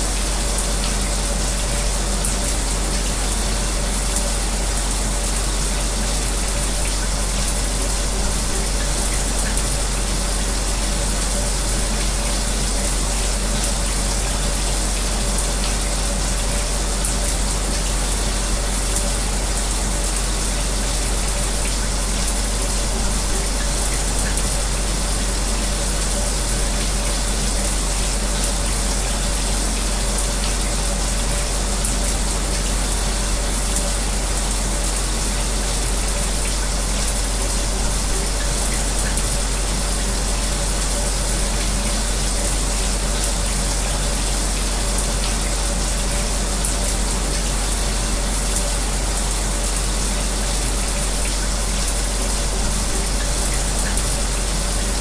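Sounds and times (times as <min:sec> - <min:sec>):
shower water spraying: 0:00.0 - 0:55.0.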